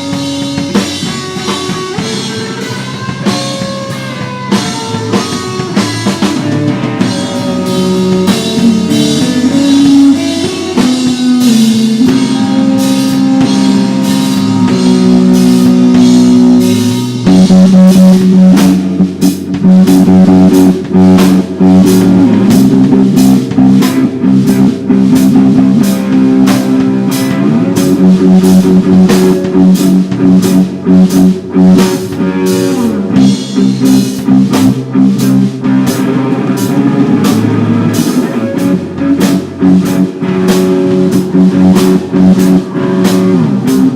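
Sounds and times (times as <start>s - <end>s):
drum kit beat: 0.0s - 43.9s
electric guitar playing: 0.0s - 43.9s.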